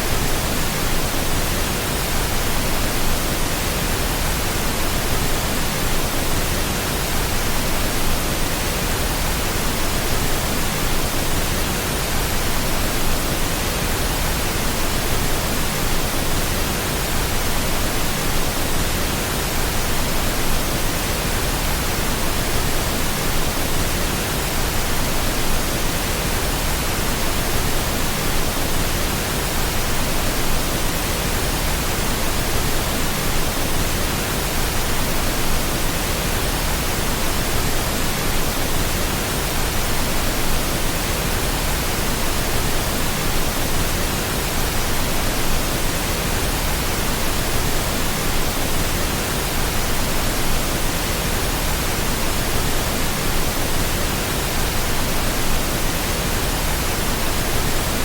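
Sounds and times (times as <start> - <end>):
pink noise: 0.0 - 58.0.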